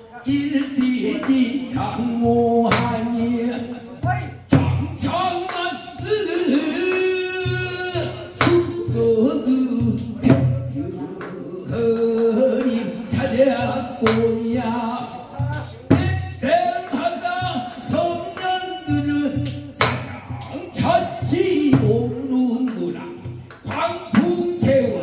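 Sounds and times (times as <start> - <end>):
man singing through microphone: 0.0 - 25.0.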